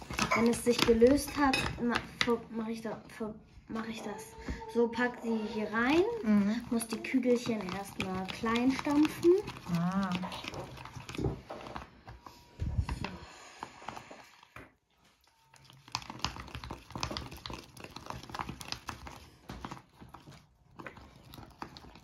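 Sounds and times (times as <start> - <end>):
spoon stirring in plastic cup: 0.0 - 2.4, 5.4 - 22.0.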